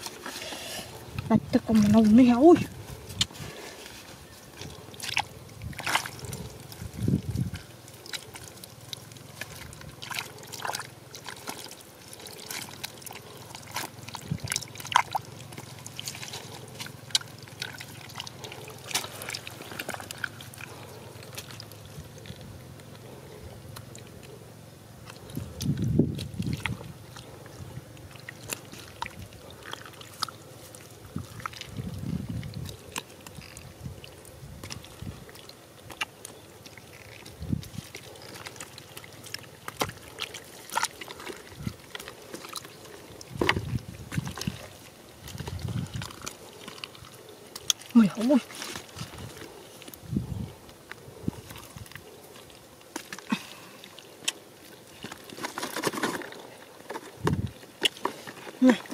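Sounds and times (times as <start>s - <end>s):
hands squelching in wet mud: 0.0s - 58.9s.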